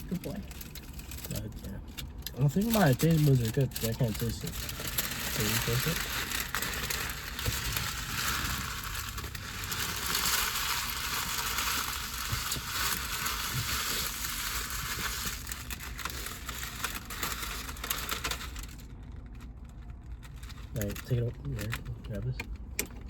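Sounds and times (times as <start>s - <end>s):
food packaging crinkling: 0.0s - 21.8s.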